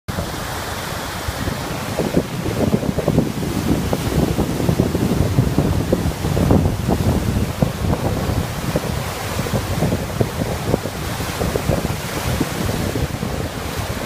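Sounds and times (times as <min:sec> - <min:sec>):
waves washing on lake: 0:00.1 - 0:14.0
wind buffeting microphone: 0:00.1 - 0:14.0.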